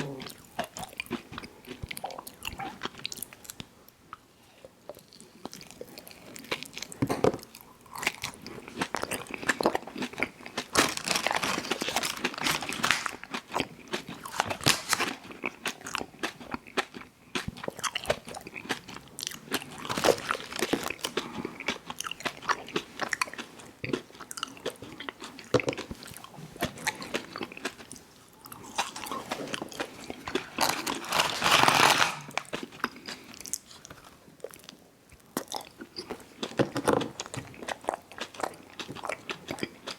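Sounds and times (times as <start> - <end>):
crunchy eating and chewing: 0.0 - 3.7, 4.9 - 39.9.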